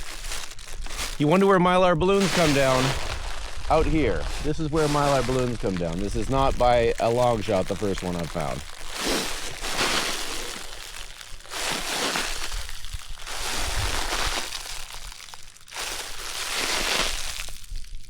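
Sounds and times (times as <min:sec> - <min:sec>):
foil balloon crinkling: 0:00.0 - 0:18.0.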